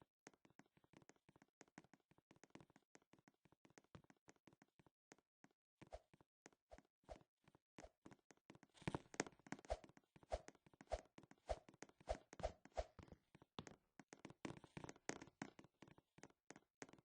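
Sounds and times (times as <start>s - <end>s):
faint clicks and taps: 0.2s - 6.8s, 7.4s - 17.0s.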